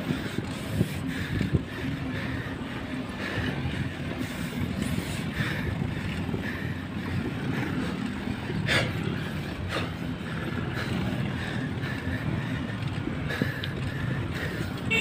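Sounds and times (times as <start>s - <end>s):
bike tyres on pavement: 0.0s - 15.0s.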